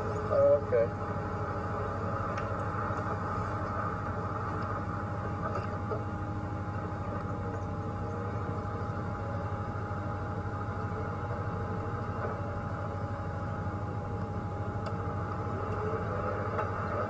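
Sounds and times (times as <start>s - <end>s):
thin whine: 0.0s - 17.0s
vehicle engine drone: 0.0s - 17.0s.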